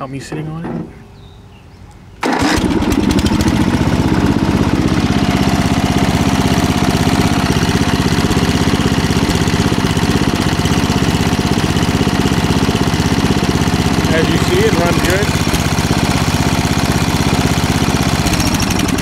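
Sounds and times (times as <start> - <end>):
lawn tractor engine starting and running: 2.2 - 19.0.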